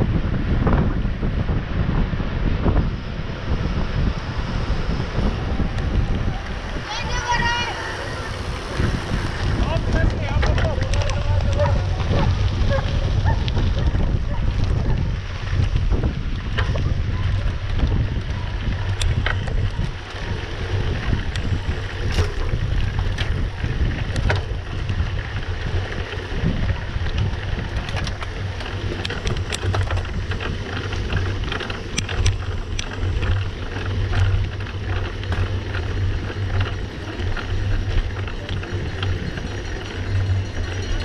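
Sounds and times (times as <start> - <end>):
wind buffeting microphone: 0.0 - 41.0
tyre noise on dirt: 3.6 - 41.0
bike clicks and rattles: 4.6 - 41.0.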